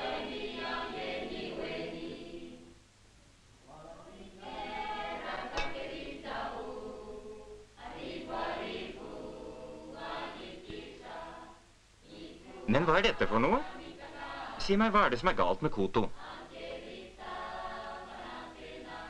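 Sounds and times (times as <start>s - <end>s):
choir singing: 0.0s - 2.8s, 3.8s - 19.0s.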